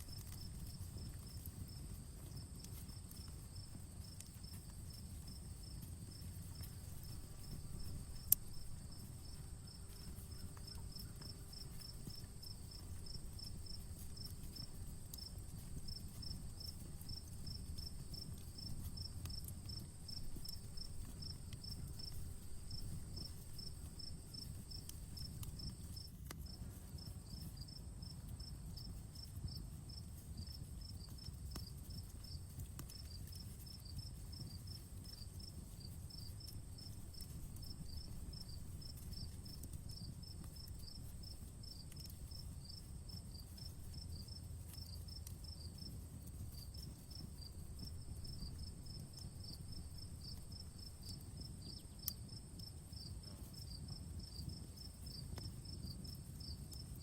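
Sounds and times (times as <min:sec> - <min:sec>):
insect trill: 0:00.0 - 0:26.1, 0:29.9 - 0:57.0
campfire crackling: 0:00.0 - 0:57.0
crickets chirping: 0:00.0 - 0:57.0.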